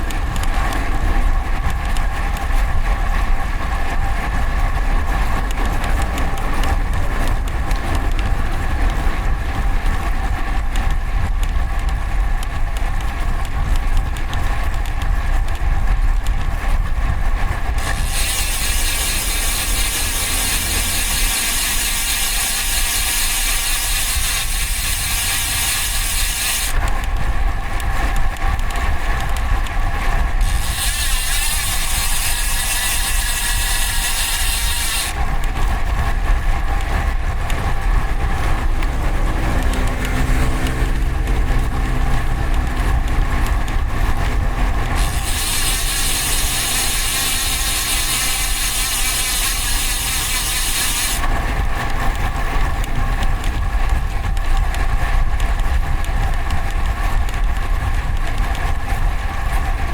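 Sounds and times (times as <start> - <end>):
passing vehicle engine hum: 0.0 - 12.2, 16.2 - 34.4, 35.0 - 57.4
bicycle tyre and road noise: 0.0 - 59.9
freehub ratchet buzz: 0.0 - 59.9
wind rumble on microphone: 0.0 - 59.9.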